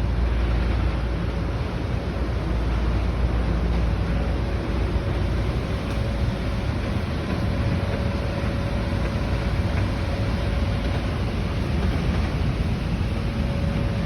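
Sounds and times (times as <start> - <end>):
machinery and rushing air: 0.0 - 14.0.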